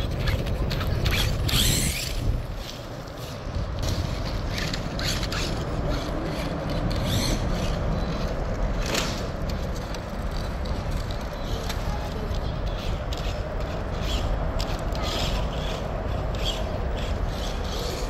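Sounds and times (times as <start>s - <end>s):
scrapes on rough ground: 0.0s - 18.0s.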